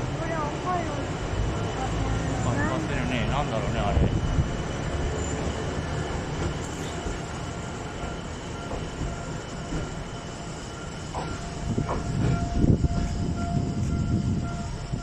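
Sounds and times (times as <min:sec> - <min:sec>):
train wheels and motor rumbling: 0:00.0 - 0:15.0.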